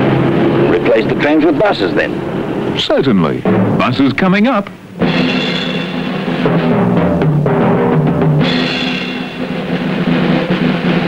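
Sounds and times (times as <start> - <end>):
drums: 0.0 - 11.0
sustained pitched notes: 0.0 - 11.0.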